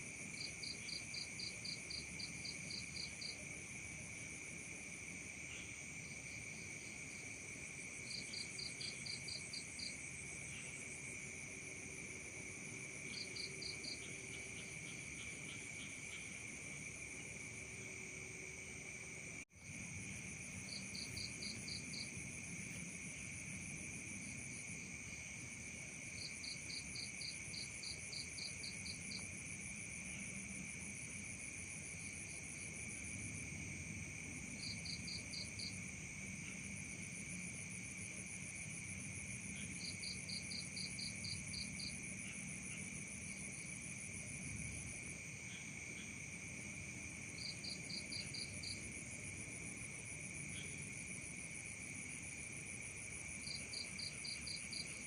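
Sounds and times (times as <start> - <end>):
rapid pulsing insect call: 0.0 - 55.0.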